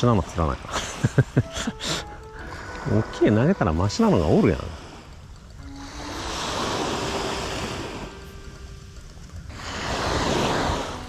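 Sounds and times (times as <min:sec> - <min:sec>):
small waves washing onto sand: 0:00.0 - 0:11.0.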